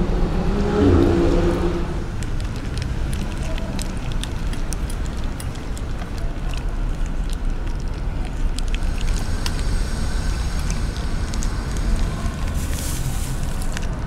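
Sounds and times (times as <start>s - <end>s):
steady low rumble: 0.0s - 14.0s
plastic pouch crinkling: 2.1s - 14.0s.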